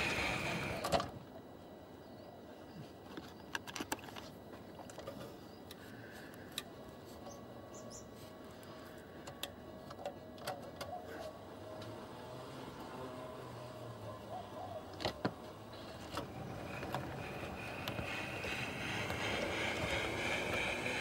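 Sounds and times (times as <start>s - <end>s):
faint background hum: 0.0s - 21.0s.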